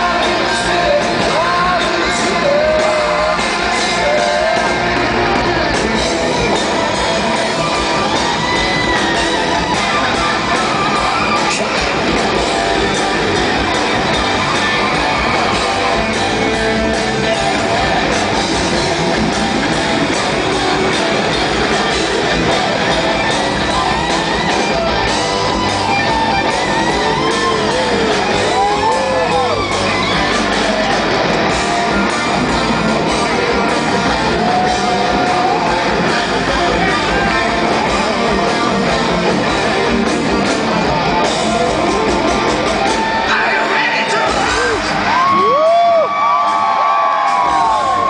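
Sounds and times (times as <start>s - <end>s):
lead guitar bending notes: 0.0s - 45.1s
hard rock band playing live: 0.0s - 48.0s.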